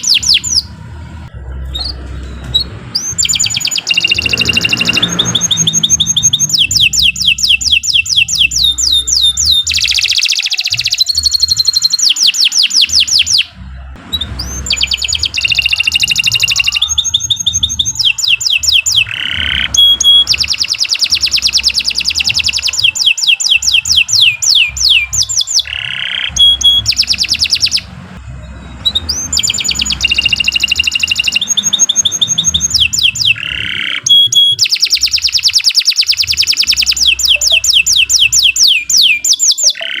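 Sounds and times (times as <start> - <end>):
canary singing fast trills: 0.0 - 0.8, 2.6 - 13.5, 14.1 - 40.0.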